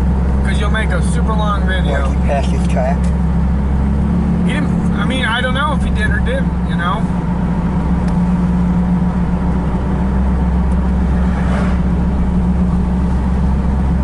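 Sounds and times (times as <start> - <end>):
car engine drone inside cabin: 0.0 - 14.0.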